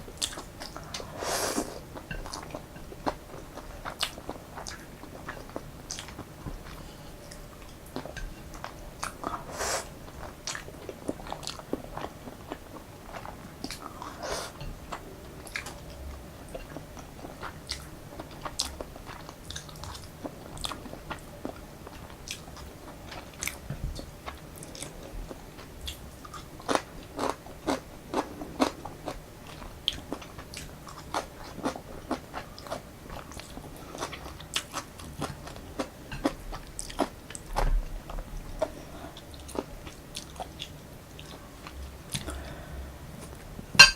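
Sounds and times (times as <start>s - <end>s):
person chewing noodles: 0.1s - 42.6s.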